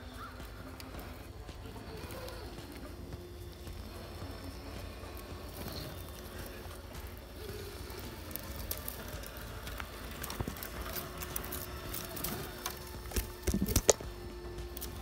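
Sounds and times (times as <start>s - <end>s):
tyres crunching on rock and dirt: 0.0s - 15.0s.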